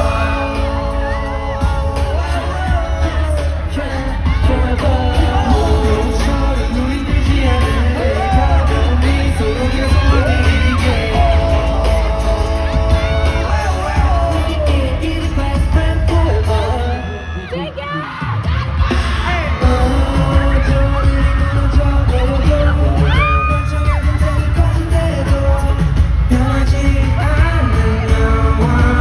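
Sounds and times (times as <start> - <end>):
audience yelling: 0.0 - 29.0
live pop song: 0.0 - 29.0.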